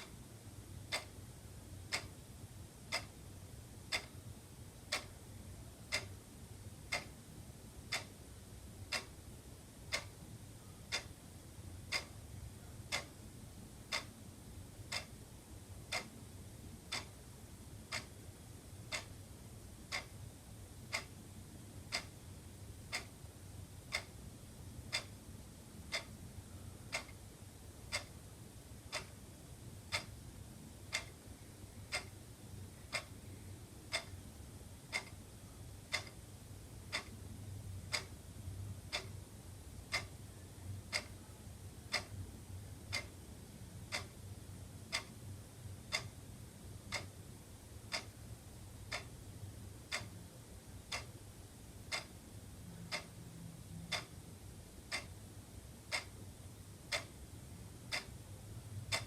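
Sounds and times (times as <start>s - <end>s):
wall clock ticking: 0.0s - 55.2s, 55.8s - 59.0s
faint low hum: 0.0s - 59.0s.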